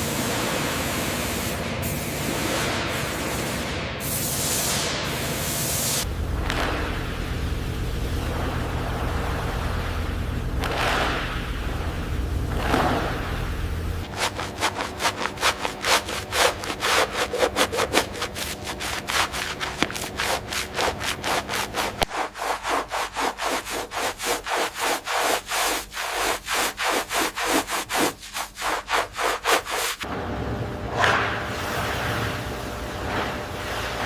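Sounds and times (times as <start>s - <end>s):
hand sanding strokes: 0.0s - 30.1s.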